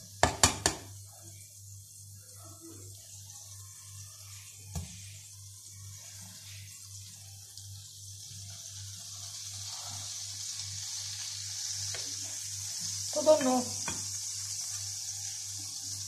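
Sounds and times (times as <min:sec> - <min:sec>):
margarine sizzling in frying pan: 0:00.0 - 0:16.0.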